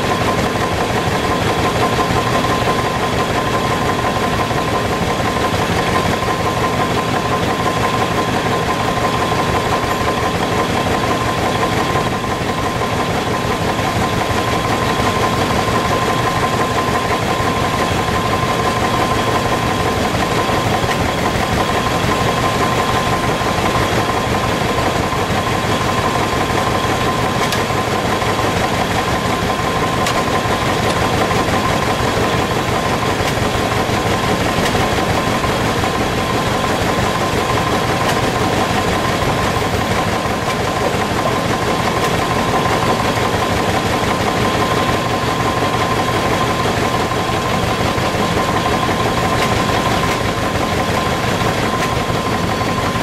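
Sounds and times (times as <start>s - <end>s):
saw blade whine: 0.0s - 53.0s.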